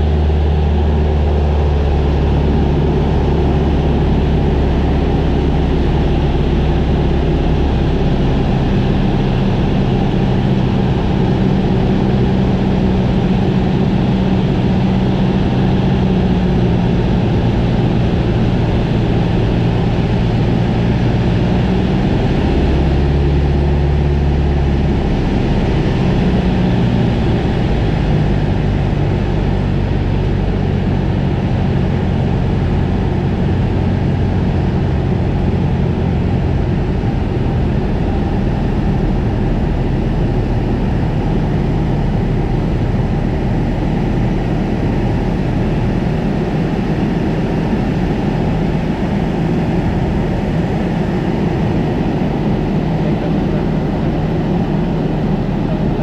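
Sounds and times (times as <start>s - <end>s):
propeller airplane engine drone: 0.0s - 56.0s.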